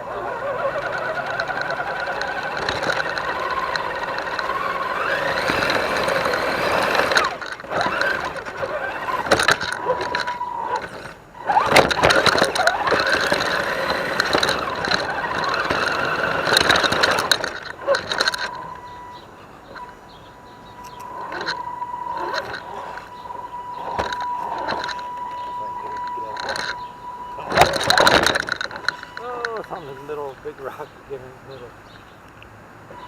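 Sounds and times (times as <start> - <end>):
toy truck motor whining: 0.0 - 31.5
sharp clicks and knocks: 0.6 - 20.0, 20.7 - 30.0.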